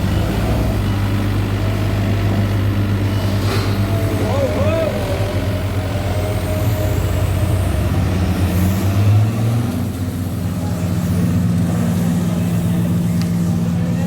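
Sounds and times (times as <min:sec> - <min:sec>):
road roller diesel engine running: 0:00.0 - 0:14.0.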